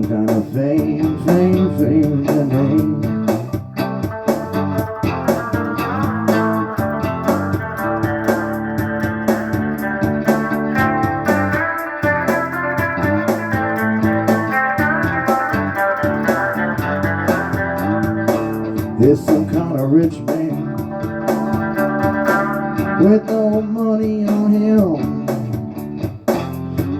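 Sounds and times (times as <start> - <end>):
organ: 0.0 - 24.6
guitar: 0.0 - 26.9
steady beat: 0.0 - 26.9.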